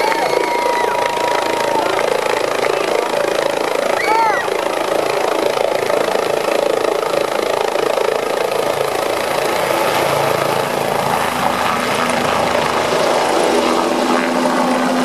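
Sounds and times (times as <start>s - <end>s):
helicopter turbine and rotor running: 0.0s - 15.0s.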